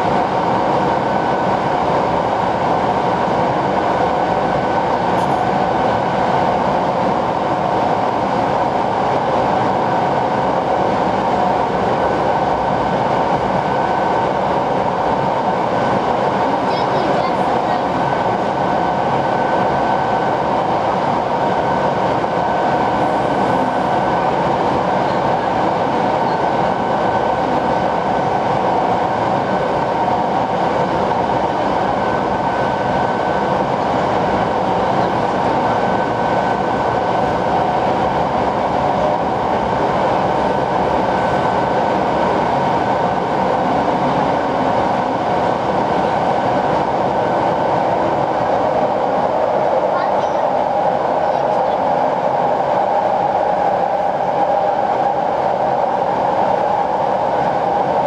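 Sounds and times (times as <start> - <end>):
electric train rumbling in tunnel: 0.0 - 58.0.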